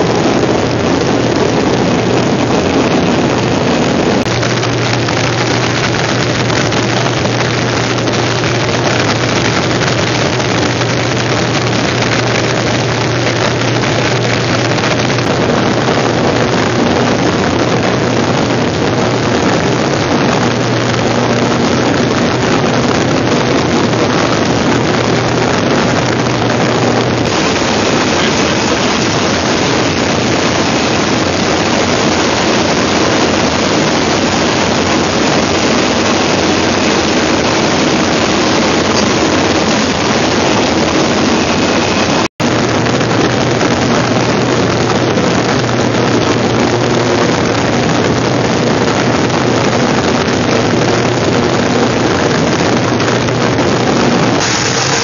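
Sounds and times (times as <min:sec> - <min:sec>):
rushing air: 0:00.0 - 0:55.0
turboprop engine drone: 0:00.0 - 0:55.0.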